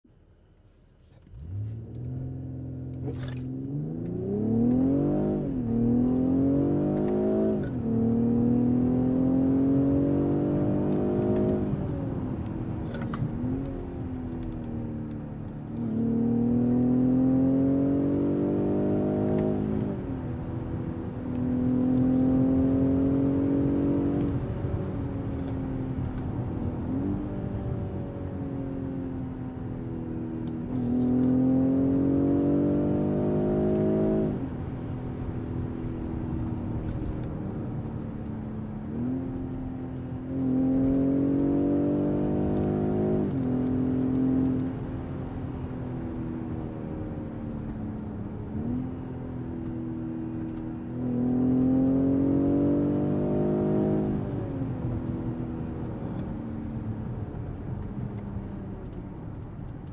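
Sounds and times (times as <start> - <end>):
car engine accelerating: 1.1 - 59.9.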